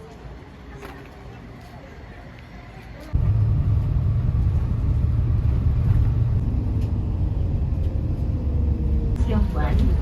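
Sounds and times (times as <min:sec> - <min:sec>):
bus rumbling in motion: 0:00.0 - 0:10.0.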